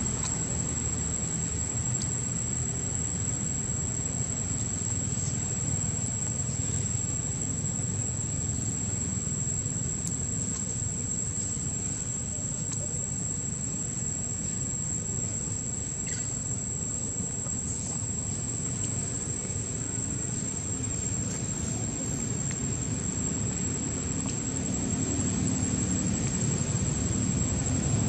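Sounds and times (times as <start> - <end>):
insects buzzing: 0.0 - 28.0
low background rumble: 0.0 - 28.0.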